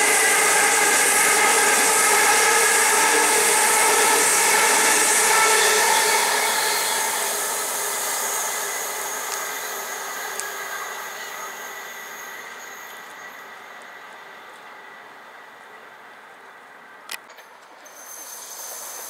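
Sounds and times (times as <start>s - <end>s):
electric train whine: 0.0s - 19.0s
wheels rushing on rail: 0.0s - 19.0s.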